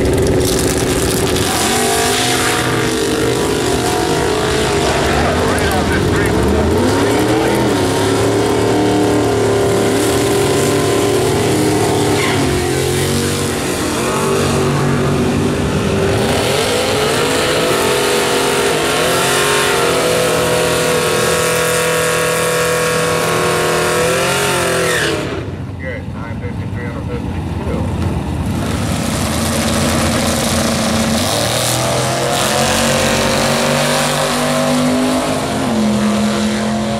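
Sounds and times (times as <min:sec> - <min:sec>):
tyres spinning in burnout: 0:00.0 - 0:26.0, 0:27.6 - 0:36.9
race car engine running hard: 0:00.0 - 0:36.9
truck engine revving high: 0:00.0 - 0:36.9.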